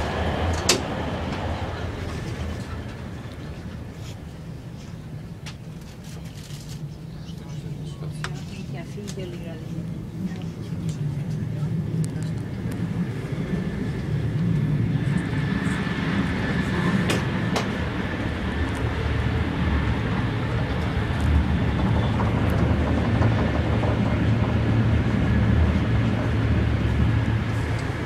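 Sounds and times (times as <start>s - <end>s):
train running noise rumble: 0.0s - 28.0s.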